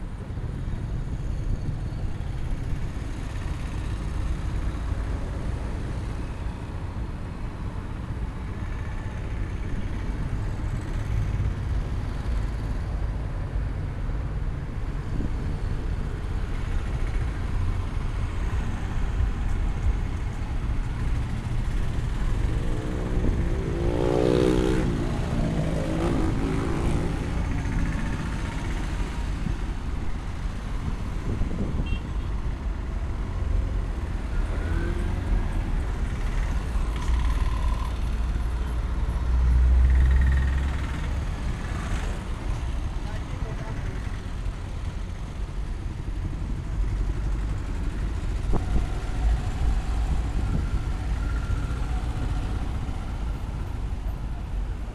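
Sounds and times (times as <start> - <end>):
road traffic rumble: 0.0 - 54.9.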